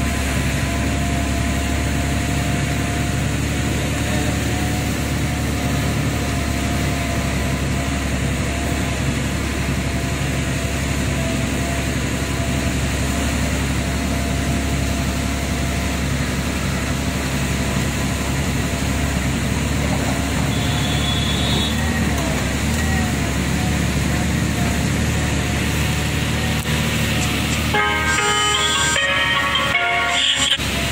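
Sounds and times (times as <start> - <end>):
road noise: 0.0 - 30.9
vehicle engine running: 0.0 - 30.9.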